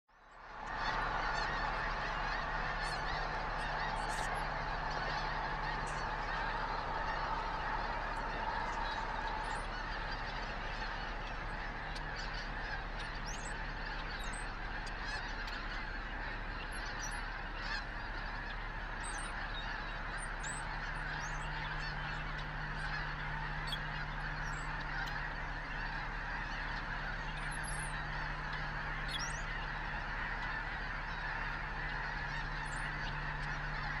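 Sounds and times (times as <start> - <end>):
flock of geese honking: 0.2 - 34.0.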